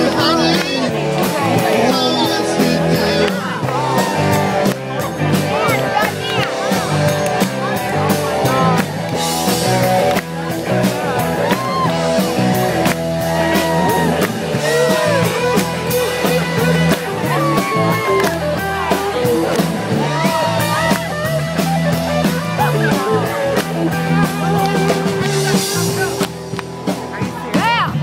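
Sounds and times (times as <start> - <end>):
drums steady beat: 0.0 - 28.0
electric guitar: 0.0 - 28.0.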